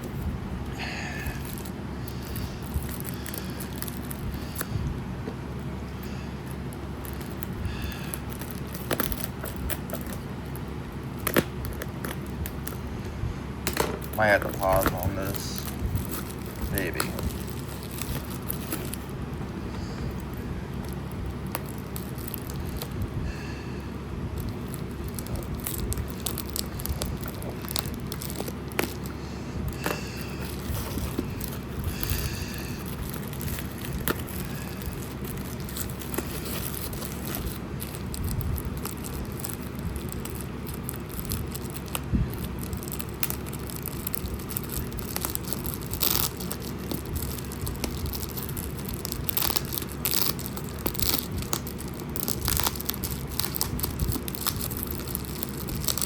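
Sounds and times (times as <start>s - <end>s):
packaging crinkling and tearing: 0.0s - 5.0s, 5.6s - 12.9s, 13.6s - 56.0s
steady low hum: 0.0s - 56.0s.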